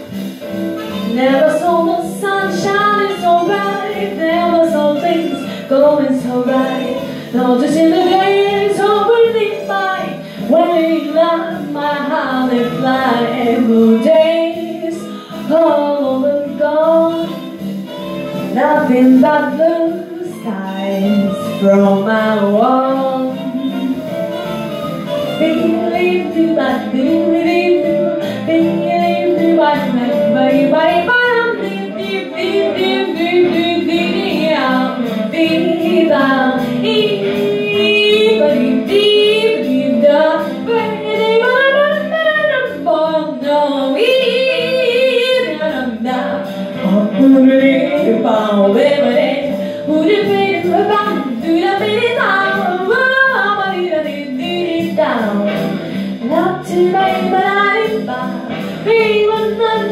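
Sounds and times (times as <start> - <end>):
girl singing into microphone: 1.1 - 17.5, 18.6 - 23.9, 25.4 - 59.9.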